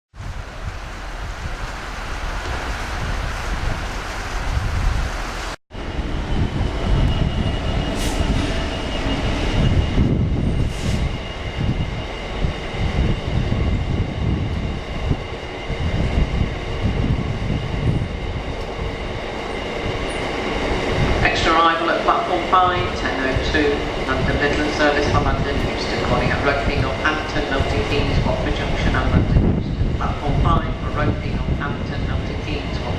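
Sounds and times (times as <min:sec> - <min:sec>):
freight train wheels rumbling: 0:00.1 - 0:32.9
wind noise on microphone: 0:00.1 - 0:32.9.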